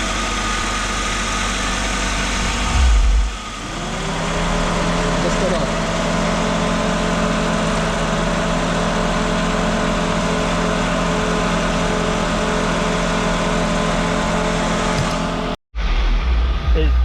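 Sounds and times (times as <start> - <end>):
car engine idling with whine: 0.0 - 17.0.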